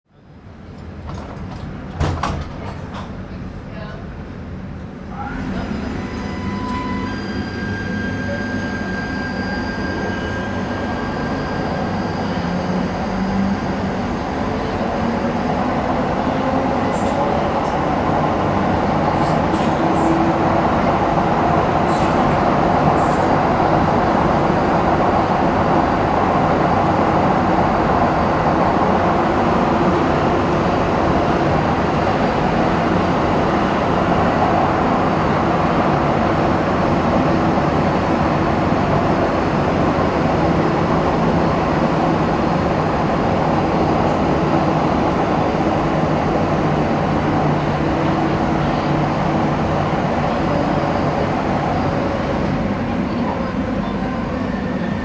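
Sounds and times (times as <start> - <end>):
tram traction drone: 0.4 - 55.0.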